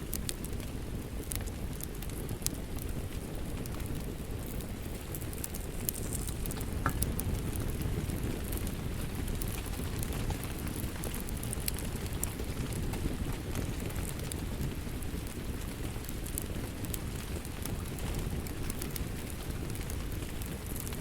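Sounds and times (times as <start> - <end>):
steady rain: 0.0 - 21.0
wood fire crackling: 0.0 - 21.0.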